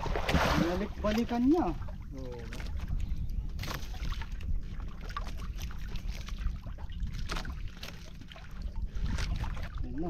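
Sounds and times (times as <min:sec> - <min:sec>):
light knocks and splashes: 0:00.0 - 0:10.0
water lapping against boat hull: 0:00.0 - 0:10.0
wind buffeting microphone: 0:00.0 - 0:10.0.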